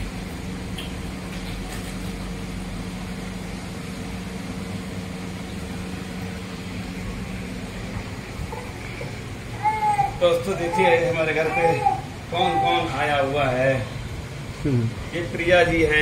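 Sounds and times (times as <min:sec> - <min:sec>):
noisy background: 0:00.0 - 0:16.0
steady machine hum: 0:00.0 - 0:16.0.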